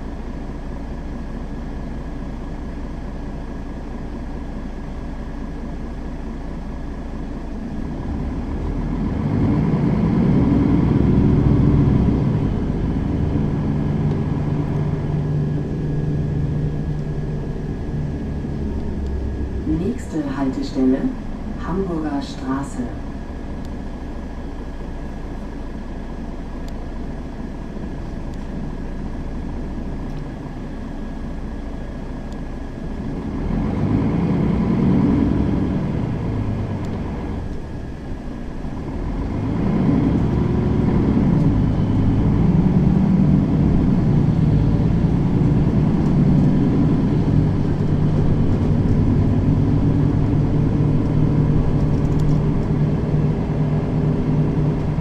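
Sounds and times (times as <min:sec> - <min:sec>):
bus engine heard from inside: 0:00.0 - 0:55.0.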